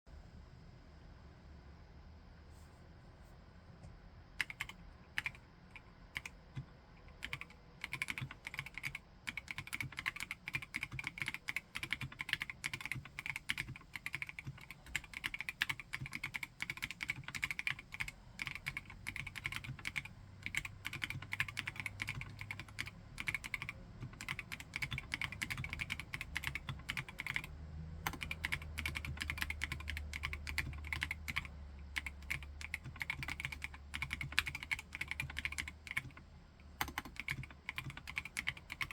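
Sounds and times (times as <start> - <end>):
fast typing on mechanical keyboard: 4.4 - 36.2, 36.8 - 38.9.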